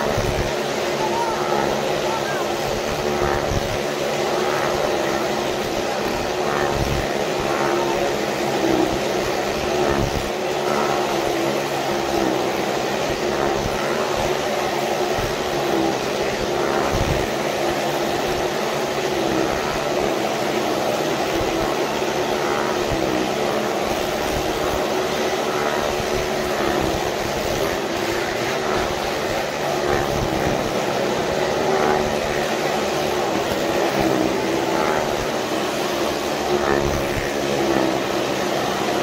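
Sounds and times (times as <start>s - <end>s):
motorcycle engines at high revs: 0.0s - 39.0s.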